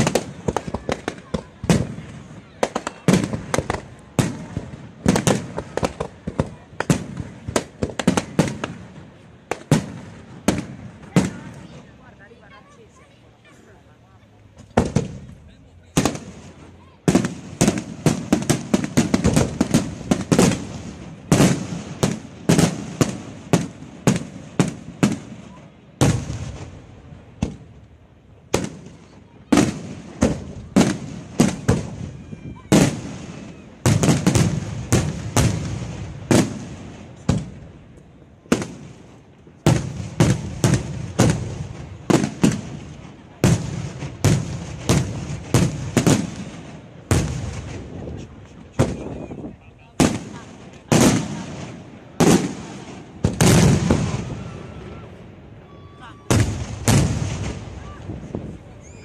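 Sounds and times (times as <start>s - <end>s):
firework shells bursting with bangs: 0.0s - 11.8s, 14.6s - 49.3s, 49.9s - 54.4s, 56.3s - 58.4s.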